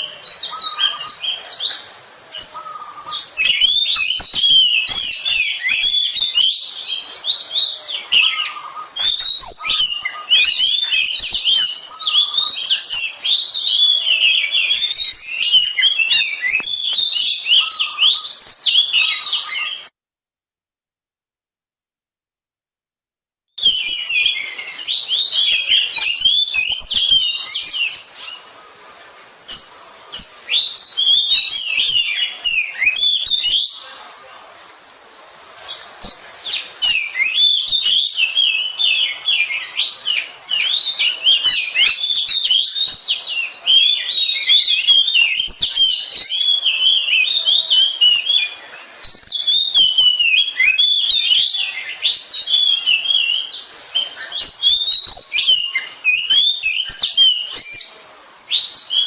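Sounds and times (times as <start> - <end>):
songbird chirping and whistling: 0.0 - 20.0, 23.6 - 28.5, 29.5 - 34.0, 35.6 - 59.0.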